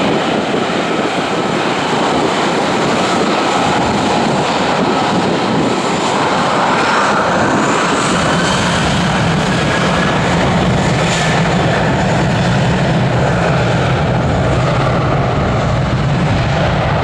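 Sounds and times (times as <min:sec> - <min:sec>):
jet engine noise with whine: 0:00.0 - 0:17.0.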